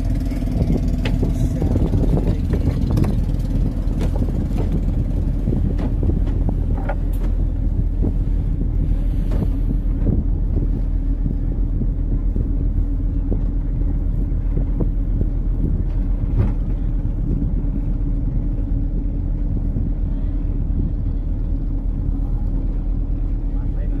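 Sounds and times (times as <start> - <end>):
speedboat engine droning: 0.0 - 24.0.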